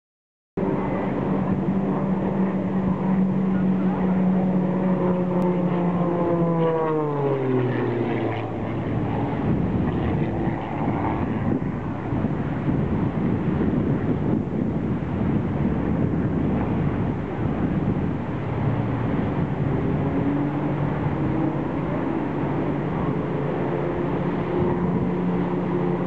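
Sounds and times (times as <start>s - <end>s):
propeller plane passing by: 0.6s - 26.0s
surf: 0.6s - 26.0s
wind on microphone: 0.6s - 26.0s.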